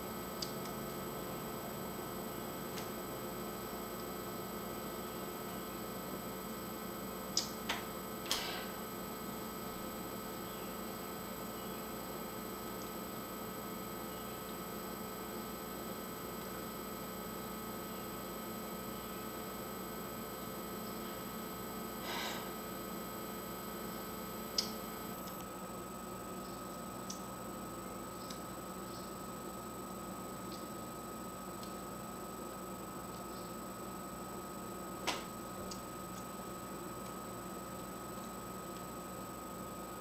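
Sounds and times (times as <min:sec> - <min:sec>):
electrical hum and hiss: 0:00.0 - 0:40.0.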